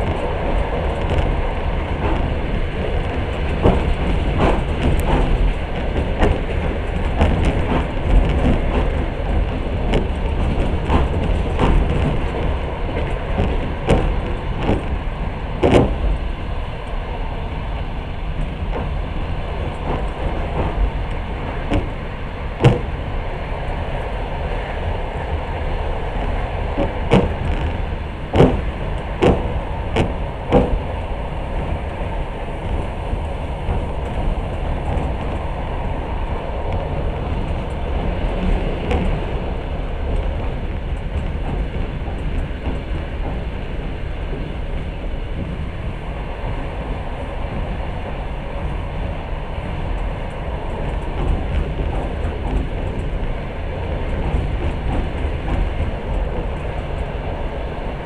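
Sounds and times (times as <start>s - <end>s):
train rumbling: 0.0s - 58.0s
wheels clacking over rail joints: 0.0s - 58.0s.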